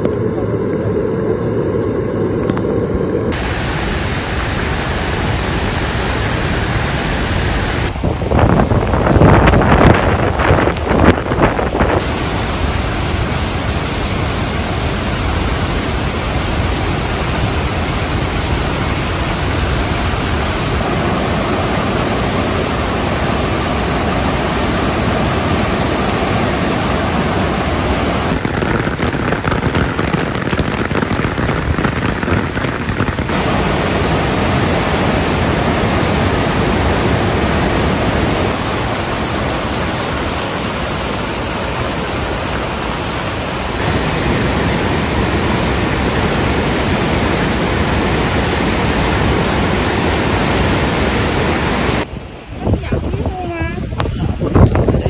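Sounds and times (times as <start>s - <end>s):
water rushing over spillway: 3.3s - 55.0s.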